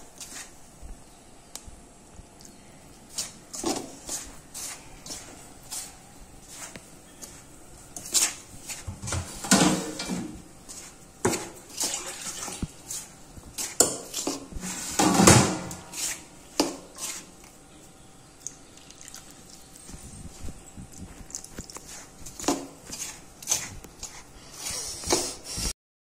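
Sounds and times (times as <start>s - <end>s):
hand mixing flour in metal bowl: 0.2s - 0.7s, 3.1s - 9.4s, 10.4s - 15.1s, 15.8s - 25.7s.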